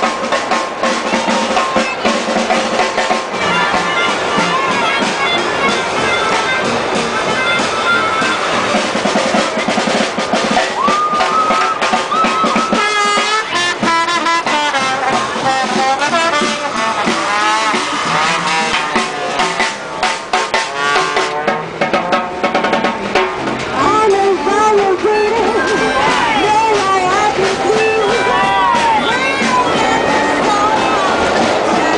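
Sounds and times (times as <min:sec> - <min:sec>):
brass horns melody: 0:00.0 - 0:31.9
drum hits: 0:00.0 - 0:31.9
swing band playing: 0:00.0 - 0:31.9.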